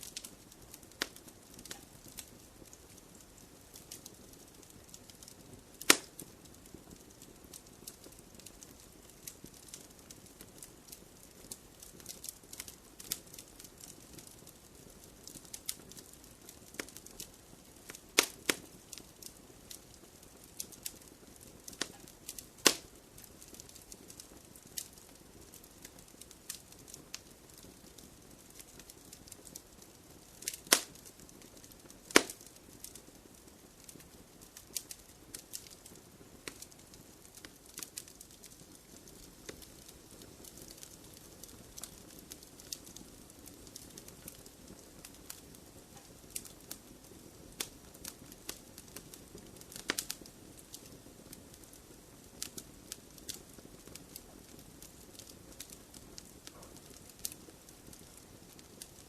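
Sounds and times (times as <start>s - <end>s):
loud pops from fire: 0.0s - 59.0s
wood fire crackling: 0.0s - 59.0s.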